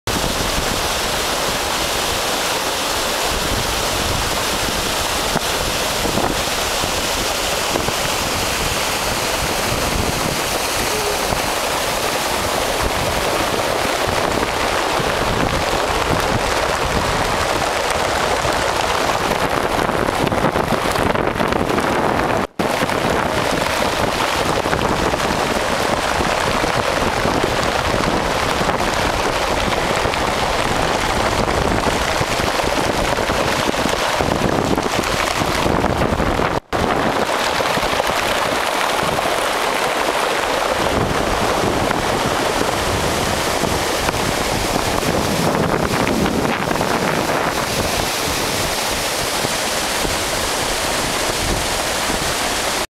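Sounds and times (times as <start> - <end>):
flood water rushing: 0.0 - 52.9.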